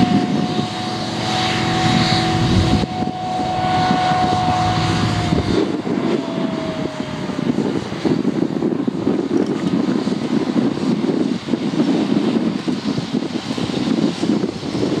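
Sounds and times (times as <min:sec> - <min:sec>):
distant diesel farm machinery drone: 0:00.0 - 0:15.0.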